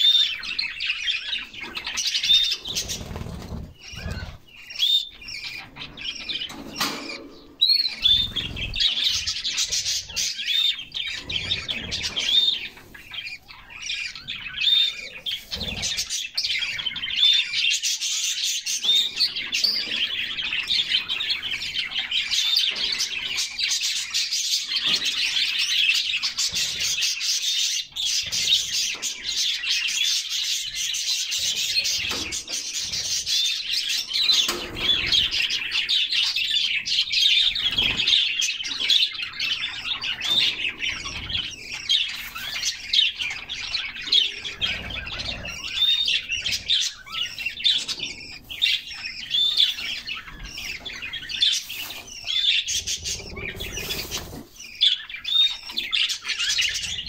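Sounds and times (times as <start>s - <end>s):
canaries singing: 0.0s - 57.0s.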